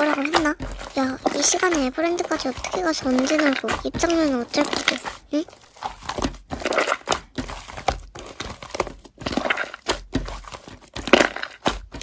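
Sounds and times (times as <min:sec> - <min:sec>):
slime squished by hand: 0:00.0 - 0:12.0.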